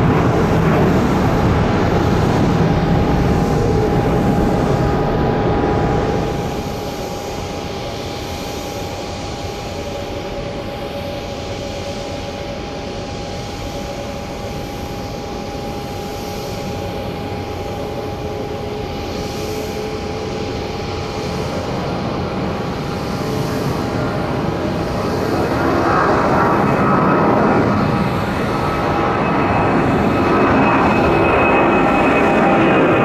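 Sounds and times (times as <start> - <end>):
jet engines at takeoff power: 0.0 - 33.0.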